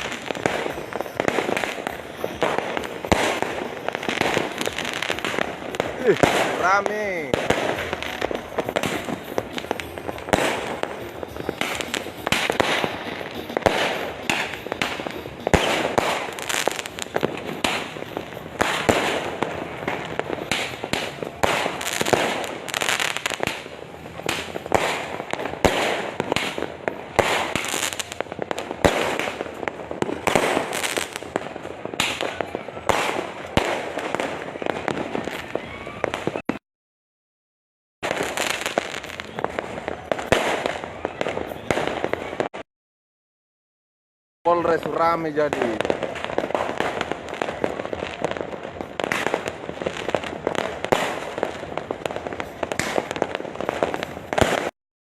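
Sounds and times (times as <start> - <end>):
fireworks bangs and crackles: 0.0 - 36.6, 38.0 - 42.6, 44.5 - 54.8.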